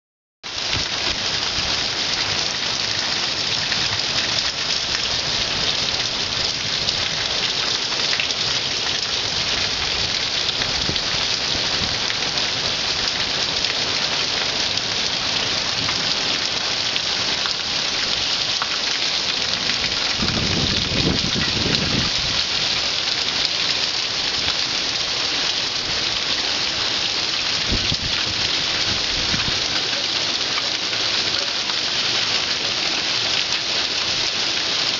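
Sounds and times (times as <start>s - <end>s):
heavy rain falling: 0.4s - 34.9s.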